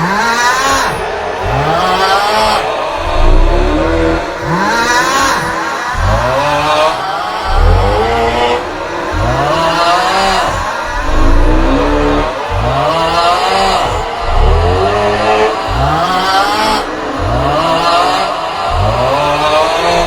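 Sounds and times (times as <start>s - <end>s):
loud groaning snore: 0.0s - 20.0s.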